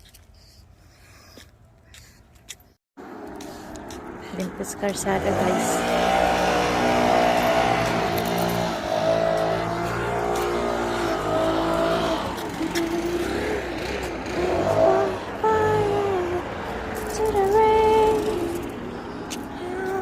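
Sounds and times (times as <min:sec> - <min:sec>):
vehicle engine running: 0:03.0 - 0:20.0.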